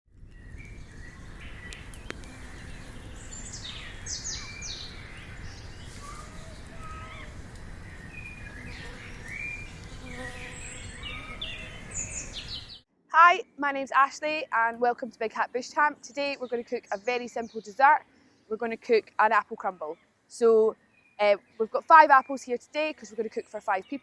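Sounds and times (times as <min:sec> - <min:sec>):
birds chirping and calling: 0:00.2 - 0:12.8, 0:15.7 - 0:24.0.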